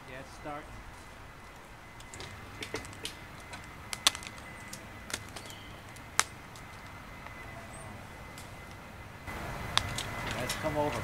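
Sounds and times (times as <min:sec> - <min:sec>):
footsteps on dry leaves and twigs: 0:00.8 - 0:11.0.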